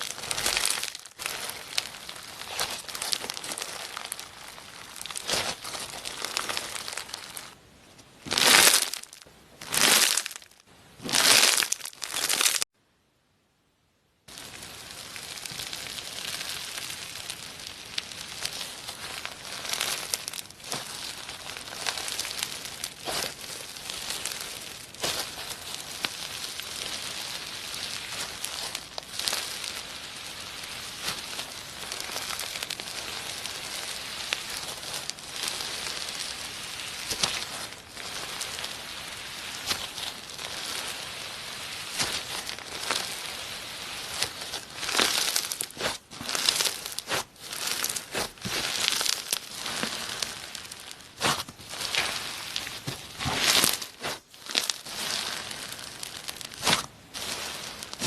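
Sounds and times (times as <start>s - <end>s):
slime squishing and crackling: 0.0s - 7.6s, 8.2s - 12.7s, 14.3s - 58.0s.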